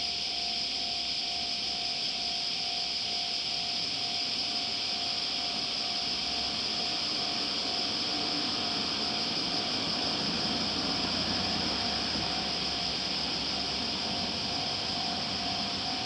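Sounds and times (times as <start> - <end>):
faint steady tone: 0.0 - 16.0
steady high hiss: 0.0 - 16.0.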